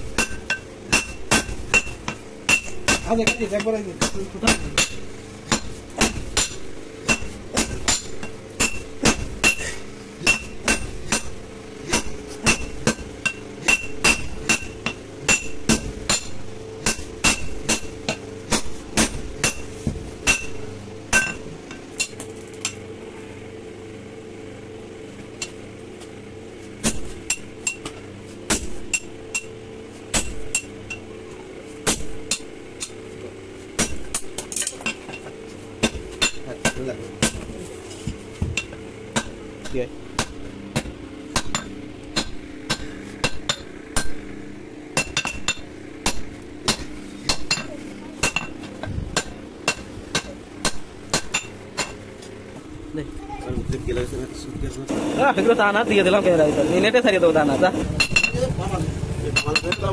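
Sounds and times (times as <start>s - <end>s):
hammer striking hot steel: 0.0s - 22.8s, 26.8s - 31.1s, 31.8s - 33.0s, 33.8s - 52.0s, 58.0s - 59.9s.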